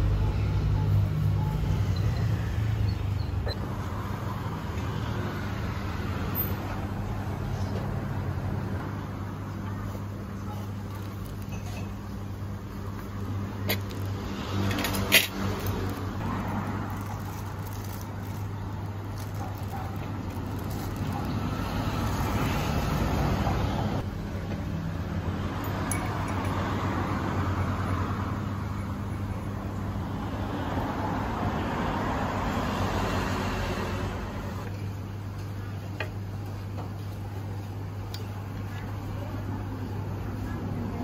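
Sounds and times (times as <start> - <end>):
road traffic engine hum: 0.0 - 41.0
vehicles passing: 0.0 - 41.0.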